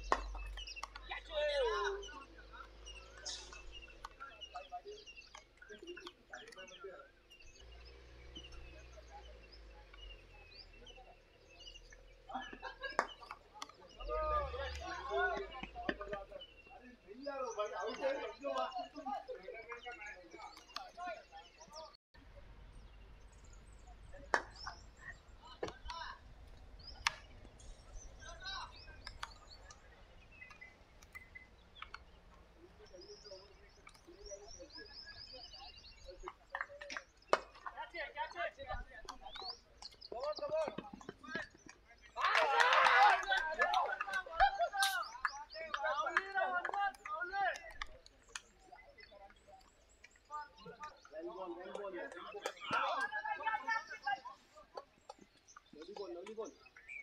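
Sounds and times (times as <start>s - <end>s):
bird chirps: 0.0s - 42.3s, 43.1s - 57.0s.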